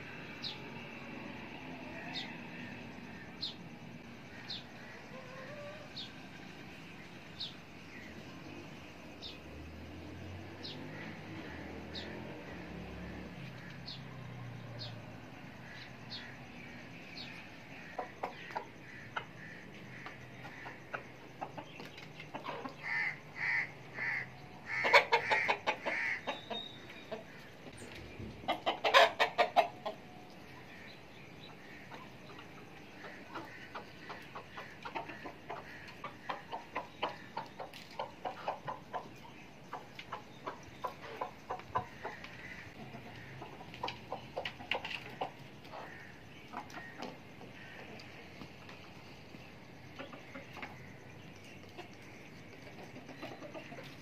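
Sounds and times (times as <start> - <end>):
chickens clucking: 4.2 - 6.2, 10.7 - 54.0.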